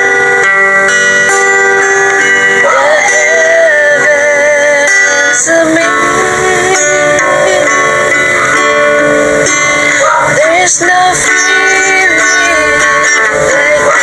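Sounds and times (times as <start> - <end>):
plucked string notes: 0.0 - 14.0
person singing: 2.0 - 14.0.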